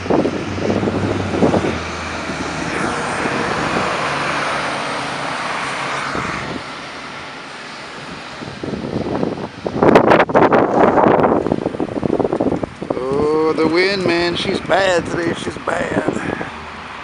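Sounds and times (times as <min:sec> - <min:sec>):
bus passing: 0:00.0 - 0:17.0
traffic: 0:00.0 - 0:17.0.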